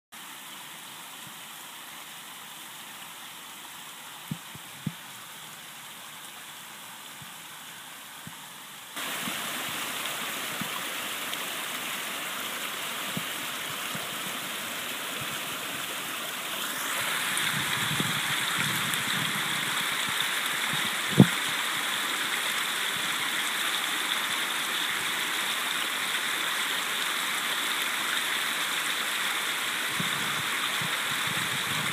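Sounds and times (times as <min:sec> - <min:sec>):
water trickling over dam: 0:00.2 - 0:31.9.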